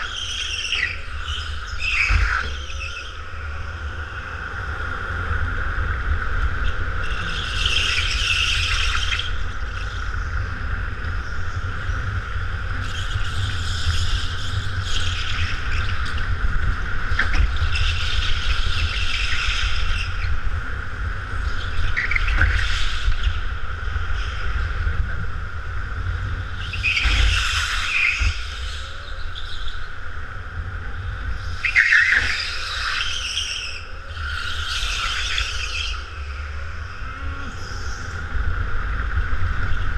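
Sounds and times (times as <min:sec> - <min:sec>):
kart engine whine: 0:00.0 - 0:39.9.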